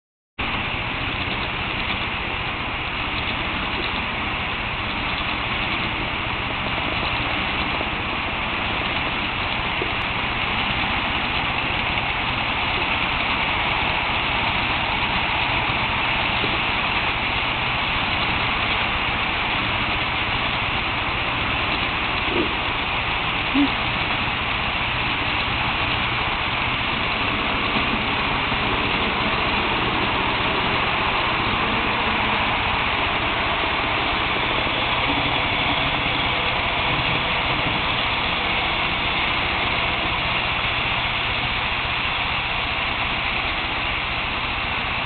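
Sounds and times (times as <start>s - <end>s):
model train whirring rumble: 0.4s - 45.0s.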